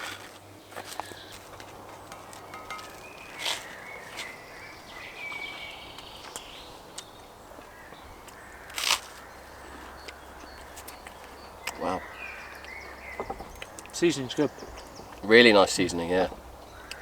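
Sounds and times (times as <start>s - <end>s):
woodland ambience: 0.0s - 17.0s.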